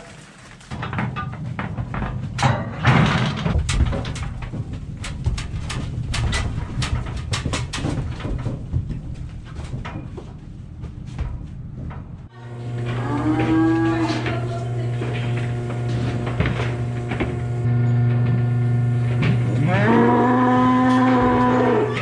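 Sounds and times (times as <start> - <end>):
metal panels and gate clanking: 0.7 - 10.4, 11.3 - 22.0
hooves knocking on trailer floor: 0.7 - 22.0.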